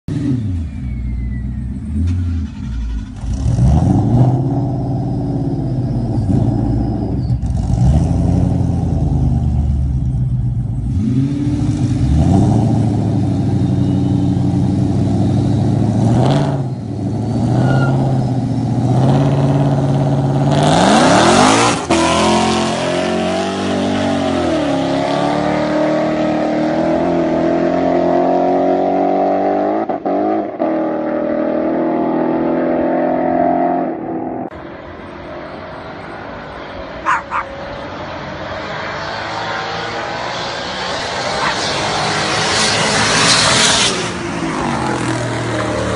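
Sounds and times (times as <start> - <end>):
car engines revving: 0.1 - 45.9
cars accelerating with upshifts: 0.1 - 45.9.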